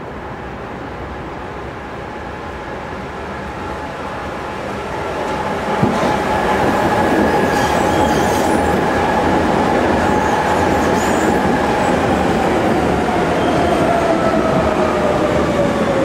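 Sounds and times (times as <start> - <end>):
train wheels rumbling on rail: 2.5 - 16.0.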